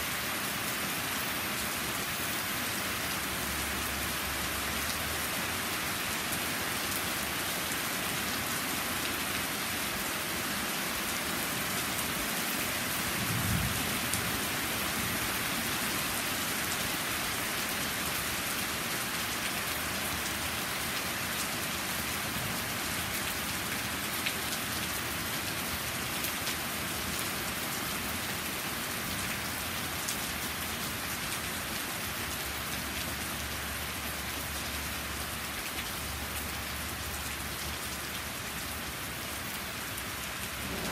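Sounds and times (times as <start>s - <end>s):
heavy rain on trees and patio: 0.0s - 40.9s.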